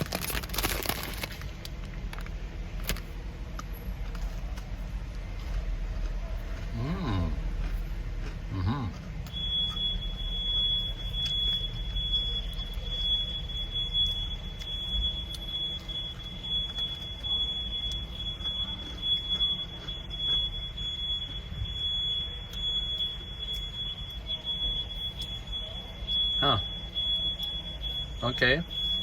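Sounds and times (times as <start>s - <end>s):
person chewing crunchy biscuit: 0.0s - 24.2s.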